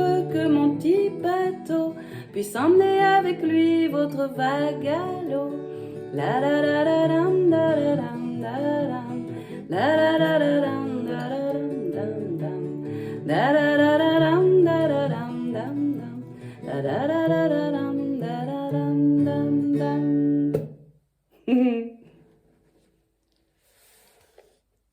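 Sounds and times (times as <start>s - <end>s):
person singing wordlessly: 0.0s - 20.6s
acoustic guitar: 0.0s - 24.6s.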